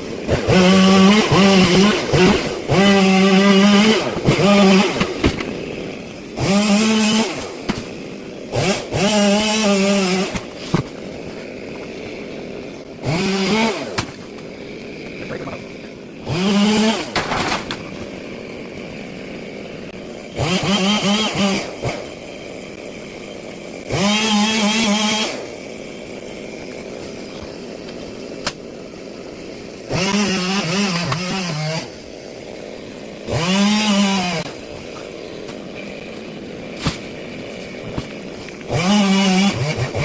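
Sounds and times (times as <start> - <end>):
chainsaw idling and revving: 0.0 - 40.0.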